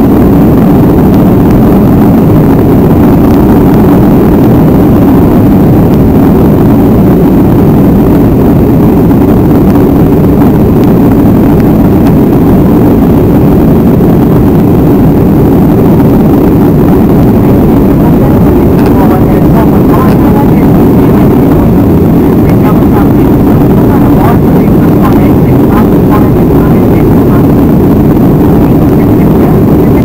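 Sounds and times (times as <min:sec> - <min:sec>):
jet engine taking off: 0:00.0 - 0:30.0.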